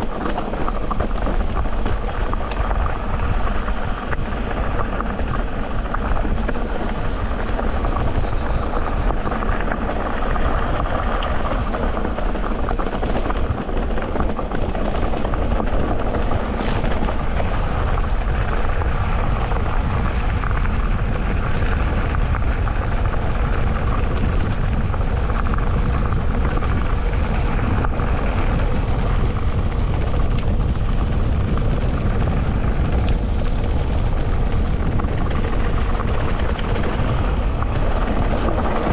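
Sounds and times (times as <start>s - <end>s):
bike tyres rolling on dirt: 0.0s - 38.9s.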